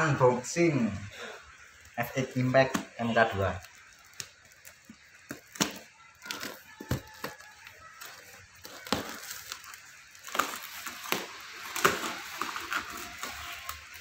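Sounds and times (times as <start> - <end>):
plastic wrap crackling and tearing: 0.8 - 14.0.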